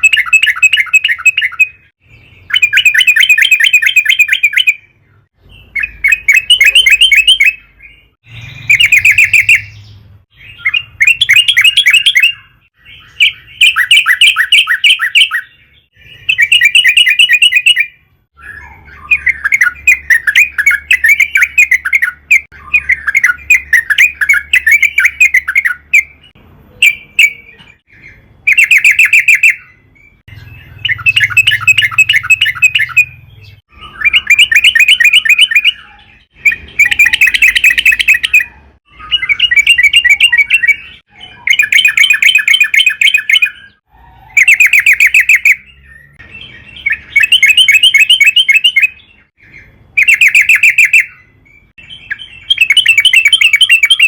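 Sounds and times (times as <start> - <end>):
bulbul singing chattering phrases: 0.0 - 4.9, 5.6 - 49.0, 49.6 - 54.0.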